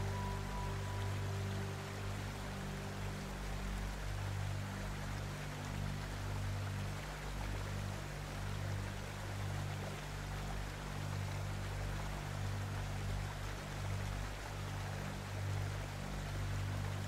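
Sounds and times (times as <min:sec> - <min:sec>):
low droning music: 0:00.0 - 0:17.0.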